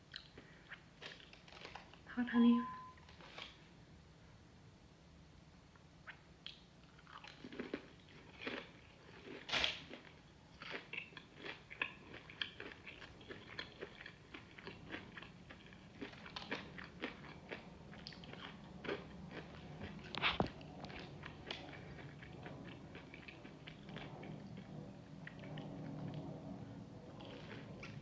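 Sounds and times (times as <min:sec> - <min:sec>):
crunchy biting and chewing: 0:00.1 - 0:02.0, 0:06.5 - 0:26.2, 0:27.1 - 0:28.0.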